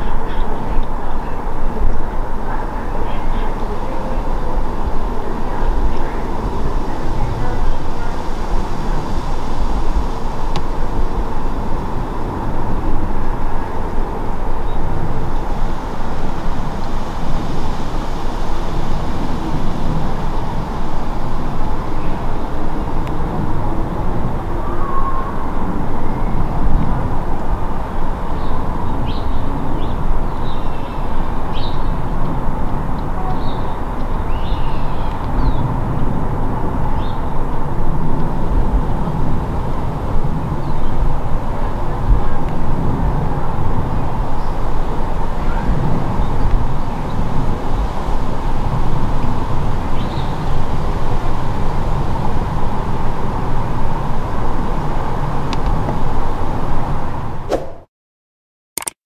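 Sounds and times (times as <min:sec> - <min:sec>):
distant jet engine rumble: 0:00.0 - 0:57.5.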